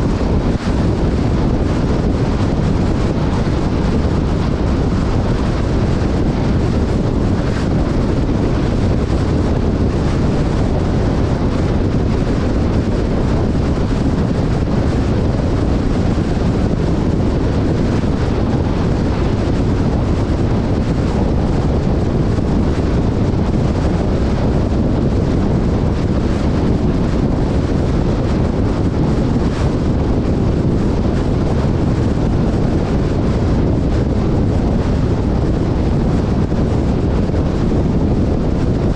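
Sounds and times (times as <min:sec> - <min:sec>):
vehicle rumbling: 0:00.0 - 0:38.9
wind buffeting microphone: 0:00.0 - 0:38.9.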